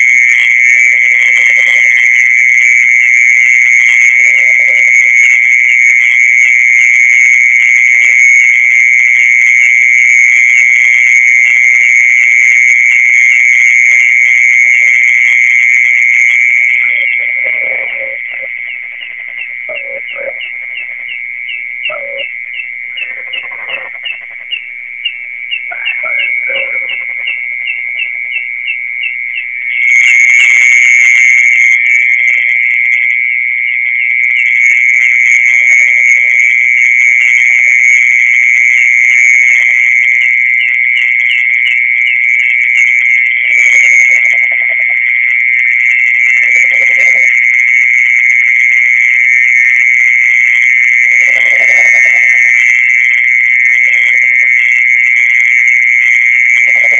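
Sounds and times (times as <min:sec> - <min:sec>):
mole cricket trilling: 0:00.0 - 0:56.9
short lower insect calls: 0:00.0 - 0:56.9.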